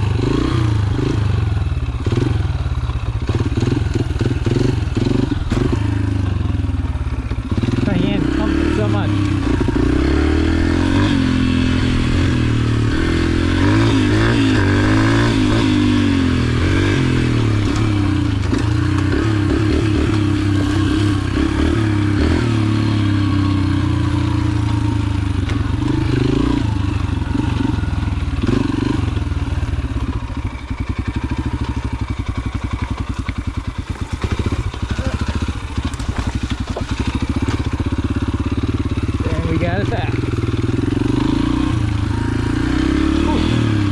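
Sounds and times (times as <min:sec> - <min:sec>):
pit bike engine running: 0:00.0 - 0:43.9.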